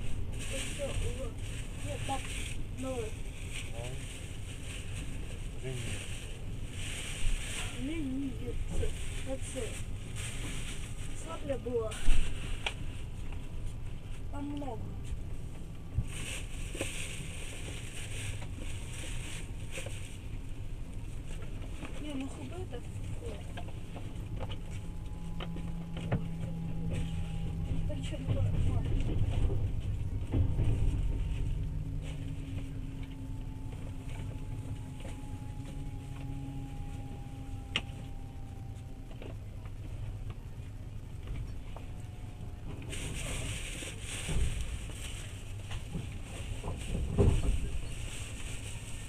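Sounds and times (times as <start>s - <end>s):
faint steady whine: 0.0s - 49.0s
train wheels rumbling: 0.0s - 49.0s.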